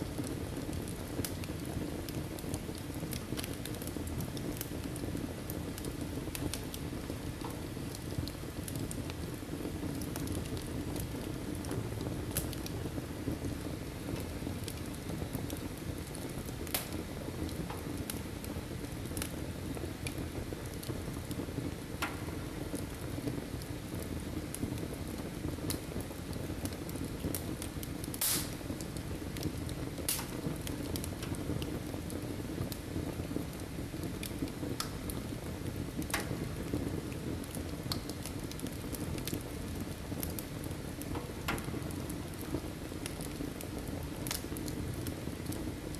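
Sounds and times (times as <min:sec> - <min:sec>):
fire crackling and popping: 0:00.0 - 0:45.9
flames rushing: 0:00.0 - 0:45.9.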